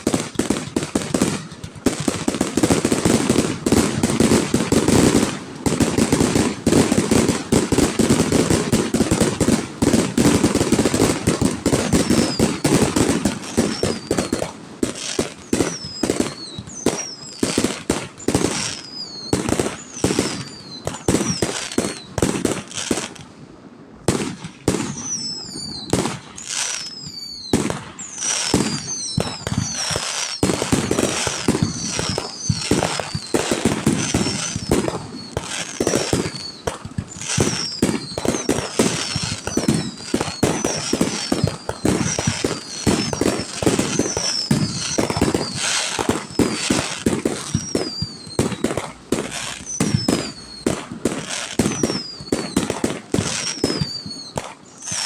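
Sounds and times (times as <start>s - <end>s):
fireworks whistles falling in pitch: 0.0s - 23.3s, 24.1s - 55.0s
fireworks bangs and crackling: 0.0s - 55.0s.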